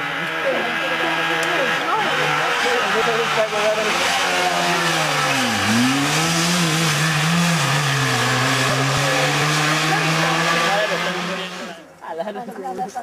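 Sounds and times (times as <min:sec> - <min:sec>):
rally car engine at high revs: 0:00.0 - 0:11.9.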